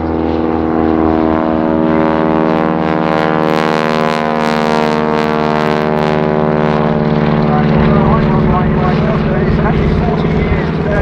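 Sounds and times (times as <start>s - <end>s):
propeller plane engine flying overhead: 0.0s - 11.0s.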